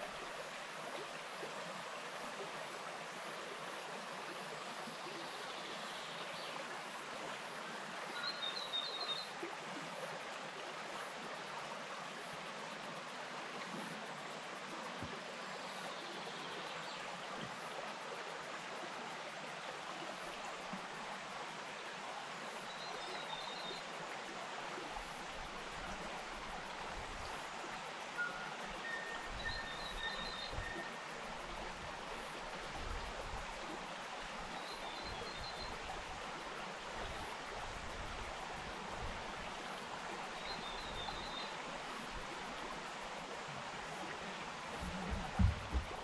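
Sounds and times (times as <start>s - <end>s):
stream flowing: 0.0s - 46.0s.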